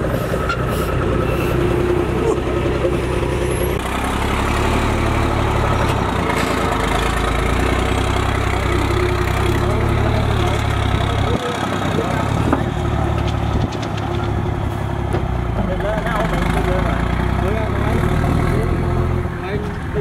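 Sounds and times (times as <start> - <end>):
truck diesel engine rumbling: 0.0 - 20.0.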